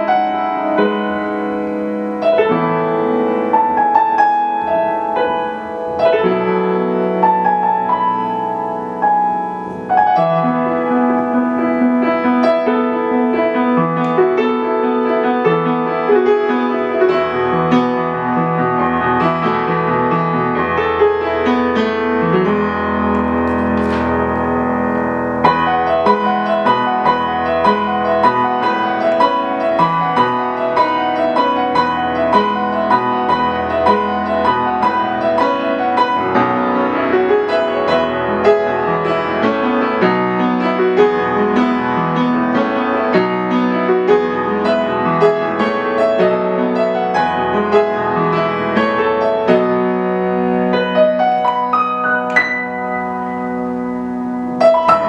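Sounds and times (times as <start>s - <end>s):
gentle piano piece: 0.0s - 55.0s.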